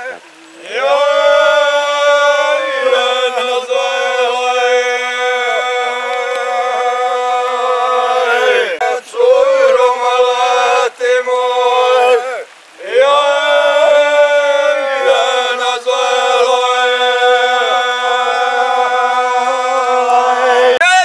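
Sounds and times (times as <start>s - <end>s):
men singing folk song unaccompanied: 0.0s - 21.0s.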